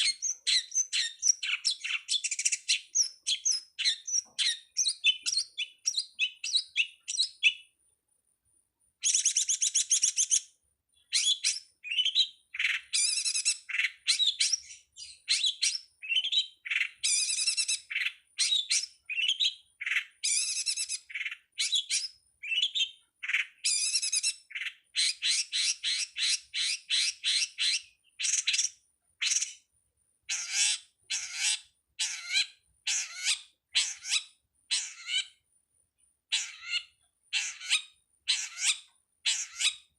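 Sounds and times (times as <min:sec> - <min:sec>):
shrike song chirps and trills: 0:00.0 - 0:39.9.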